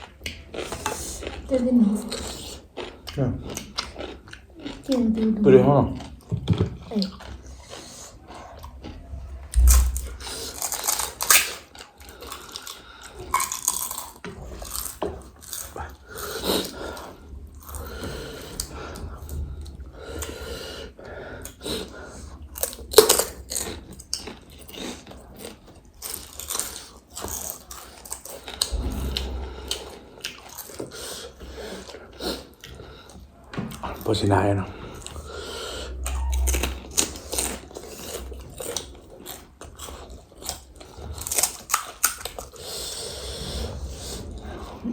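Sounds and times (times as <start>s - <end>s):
crunching and chewing crisp snacks: 0.0s - 29.4s, 30.2s - 44.8s.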